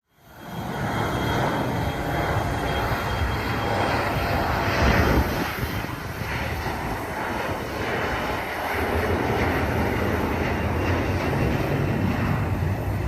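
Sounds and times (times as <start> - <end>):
jet engines roaring: 0.2 - 13.0.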